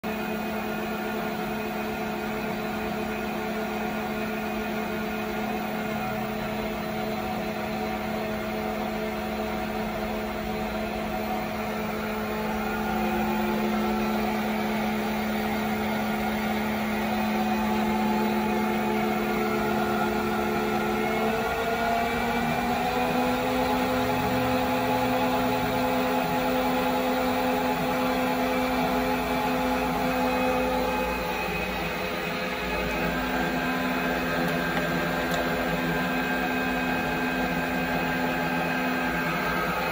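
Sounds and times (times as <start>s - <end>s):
metal lathe humming: 0.1s - 39.9s.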